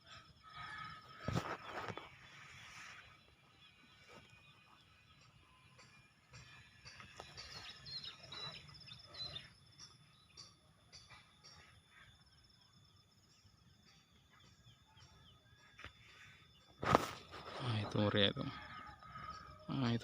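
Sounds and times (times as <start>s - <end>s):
faint birds chirping and trilling: 0.0s - 20.0s.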